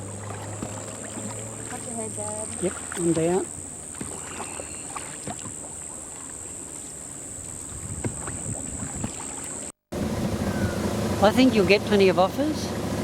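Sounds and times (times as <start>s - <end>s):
paddles swishing in water: 0.0s - 11.7s.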